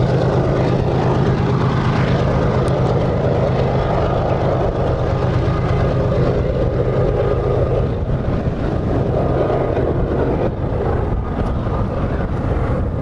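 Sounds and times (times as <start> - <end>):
distant diesel locomotives rumbling: 0.0 - 13.0
wind buffeting microphone: 0.0 - 13.0.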